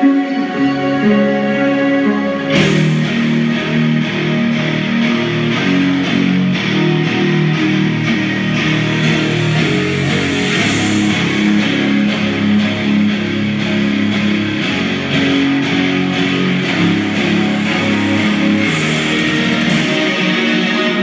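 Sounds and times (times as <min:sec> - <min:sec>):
guitar rock music through speaker: 0:00.0 - 0:21.0.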